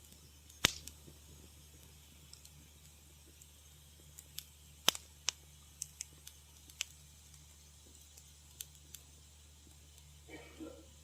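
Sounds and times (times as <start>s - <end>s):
faint low hum: 0.0s - 11.0s
wood fire crackling: 0.0s - 11.0s.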